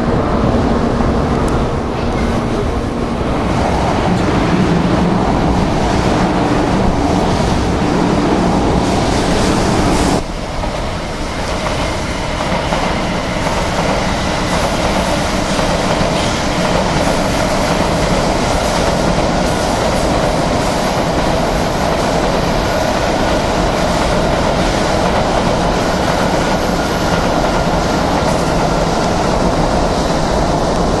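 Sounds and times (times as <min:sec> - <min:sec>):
high-speed train rumbling on rails: 0:00.0 - 0:31.0.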